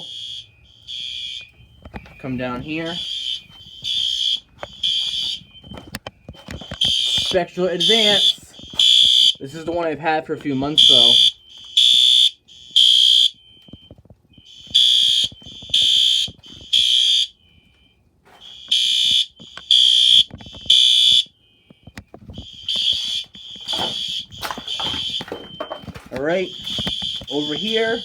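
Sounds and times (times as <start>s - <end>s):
fire alarm horn blasts: 0.0s - 9.6s, 10.6s - 28.0s
faint steady alarm tone: 0.0s - 28.0s.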